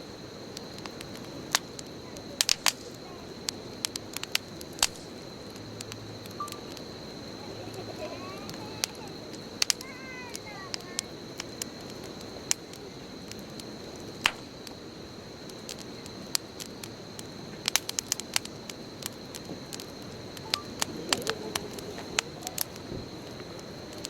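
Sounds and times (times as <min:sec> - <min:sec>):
bonfire crackling and popping: 0:00.0 - 0:24.0
hiss of burning: 0:00.0 - 0:24.0.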